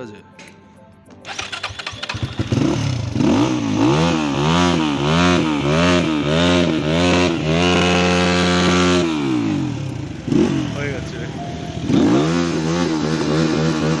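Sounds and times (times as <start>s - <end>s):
motorcycle engine revving: 1.3s - 14.0s.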